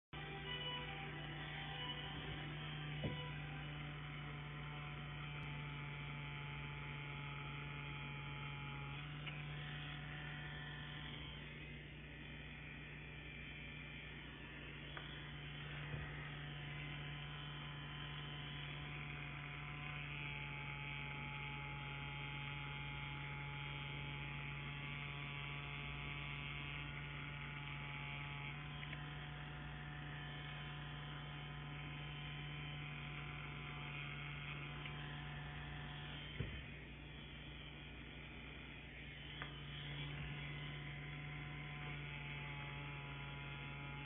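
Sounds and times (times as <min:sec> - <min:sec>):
tattoo pen motor buzzing: 0:00.2 - 0:44.0.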